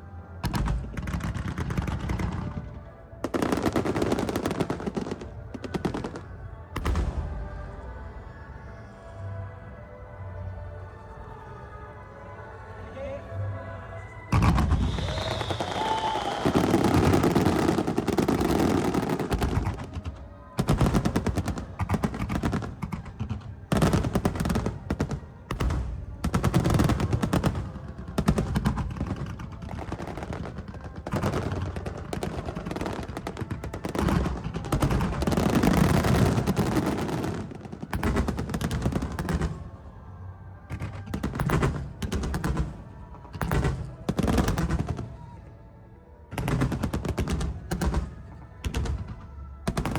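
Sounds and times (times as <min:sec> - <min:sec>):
fireworks bursting: 0:00.4 - 0:07.4, 0:14.4 - 0:39.8, 0:40.7 - 0:45.2, 0:46.4 - 0:49.9.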